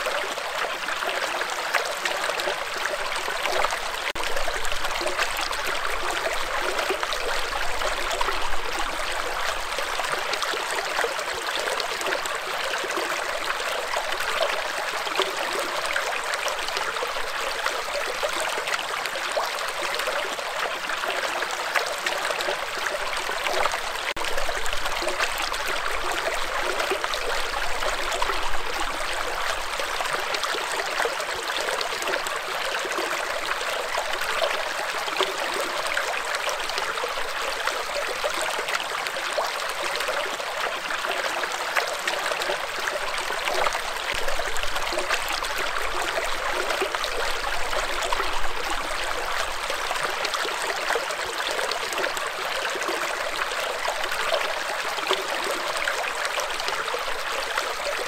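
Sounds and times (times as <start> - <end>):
stream rushing over stones: 0.0 - 58.0.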